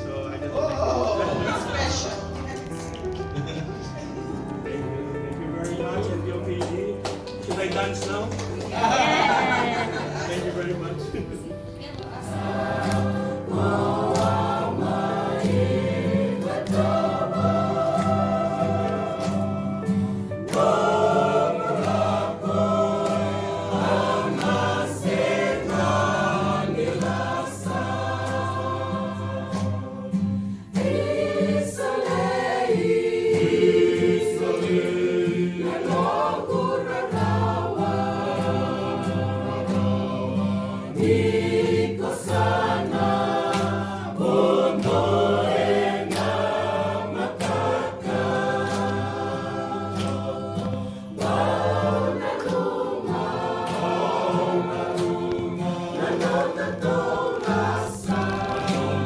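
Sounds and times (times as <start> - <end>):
choir singing in harmony: 8.5 - 59.0.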